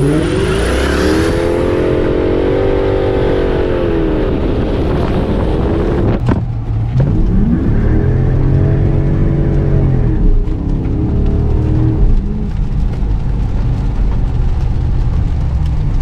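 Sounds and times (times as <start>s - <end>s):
car engine revving hard: 0.0s - 13.2s.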